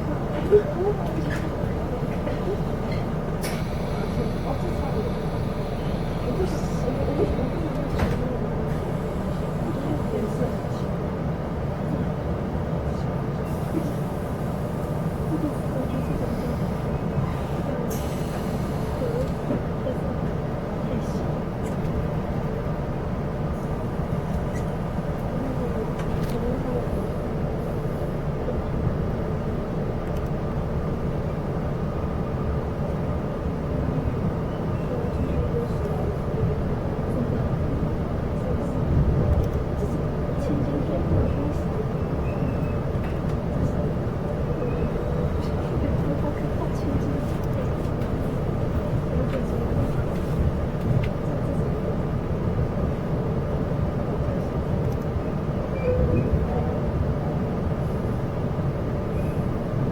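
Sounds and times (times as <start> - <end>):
train wheels on rails rumble: 0.0 - 59.9.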